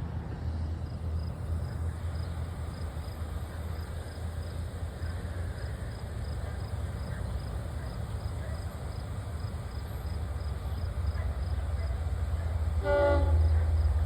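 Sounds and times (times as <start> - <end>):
diesel train rumbling past: 0.0 - 14.0.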